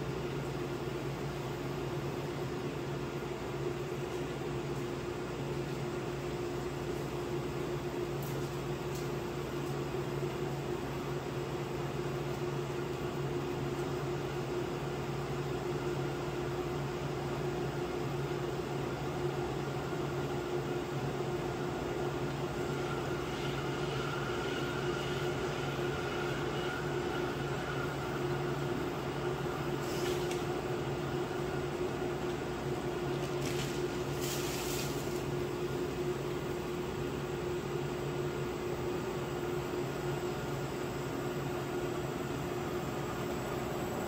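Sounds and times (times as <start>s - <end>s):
cooling fan whirring: 0.0s - 44.0s
induction cooktop hum: 0.0s - 44.0s.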